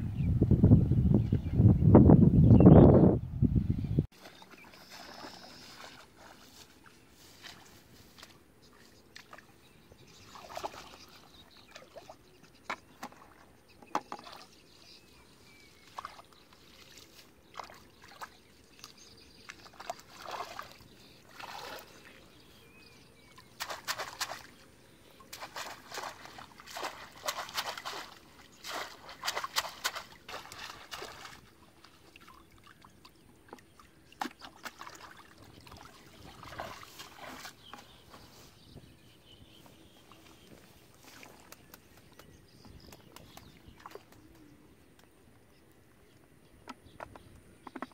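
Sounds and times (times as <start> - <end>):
wading steps through water: 4.1 - 14.5, 15.5 - 22.6, 23.2 - 45.2
muddy water splashing: 4.1 - 45.2.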